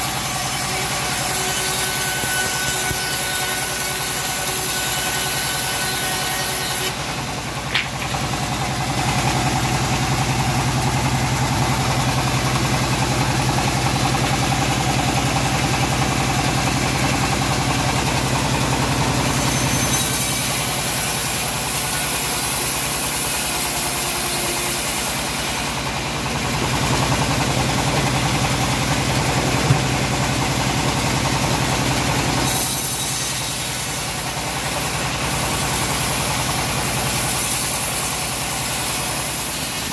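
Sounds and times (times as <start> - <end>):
blade sawing wood with hiss: 0.0 - 26.0, 27.7 - 39.9
bandsaw mill droning: 0.0 - 39.9.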